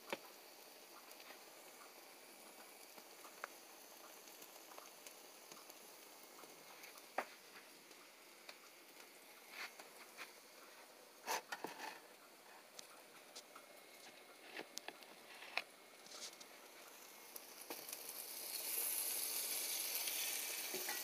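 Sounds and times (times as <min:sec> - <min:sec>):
mushrooms sizzling in a pan: 0:00.0 - 0:21.0.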